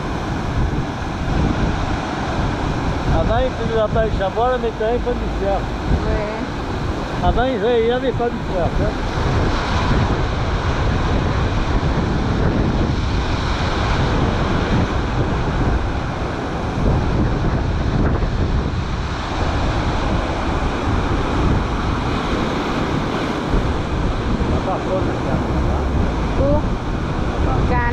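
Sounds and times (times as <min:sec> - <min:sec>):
sea surf breaking: 0:00.0 - 0:27.9
wind buffeting microphone: 0:00.0 - 0:27.9.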